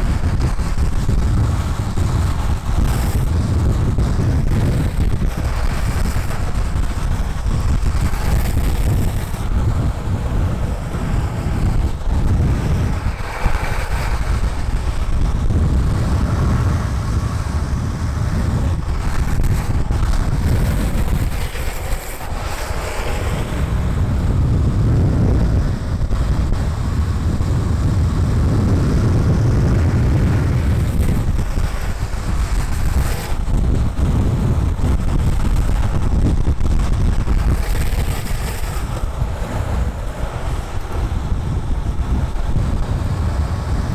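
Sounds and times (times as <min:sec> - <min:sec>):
skateboard wheels rolling on asphalt: 0:00.0 - 0:43.9
wind rushing over microphone: 0:00.0 - 0:43.9.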